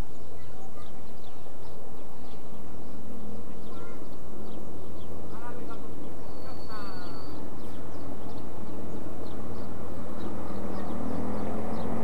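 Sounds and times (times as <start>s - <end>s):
bird chirps: 0.0s - 12.0s
locomotive engine hum: 0.0s - 12.0s.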